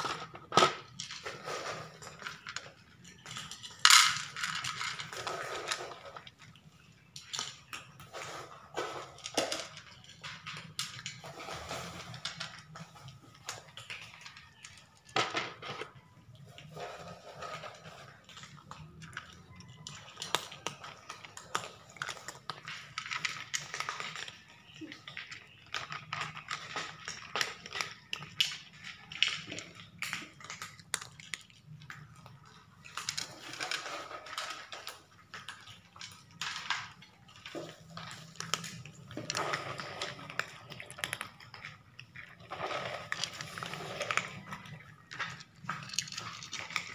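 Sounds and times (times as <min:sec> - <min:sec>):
cats crunching dry treats: 0:00.0 - 0:46.9.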